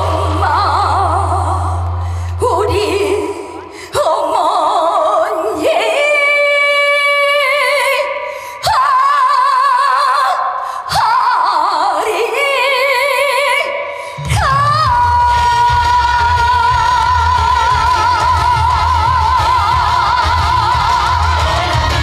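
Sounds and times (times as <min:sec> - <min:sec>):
woman singing with vibrato: 0:00.0 - 0:22.0.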